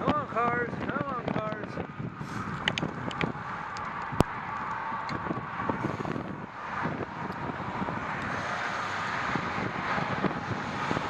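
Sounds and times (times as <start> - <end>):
cars passing on road: 0.0 - 11.0
wind buffeting microphone: 0.0 - 11.0.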